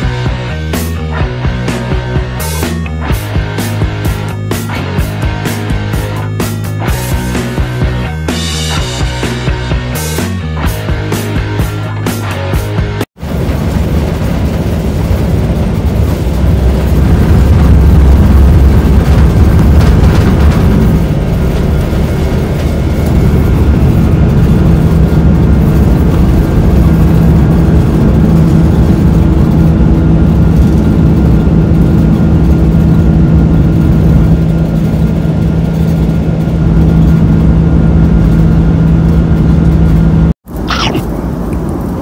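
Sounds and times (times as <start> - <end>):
jet engines roaring in cabin: 0.0 - 42.0.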